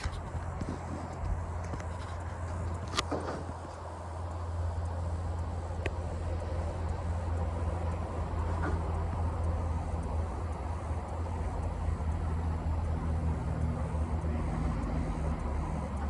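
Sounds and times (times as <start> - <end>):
faint tick: 0.0 - 16.0
low mechanical hum: 0.0 - 16.0.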